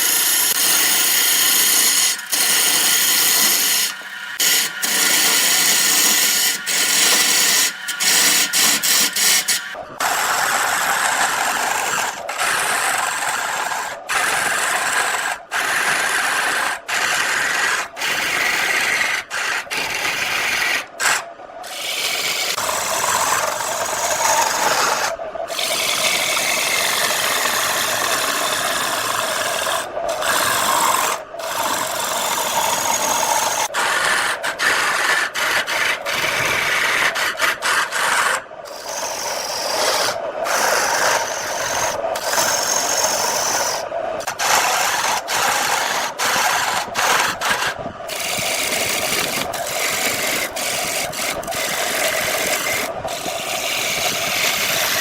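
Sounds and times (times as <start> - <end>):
cutting tool scraping wood on lathe: 0.0 - 55.0
lathe motor hum: 0.0 - 55.0.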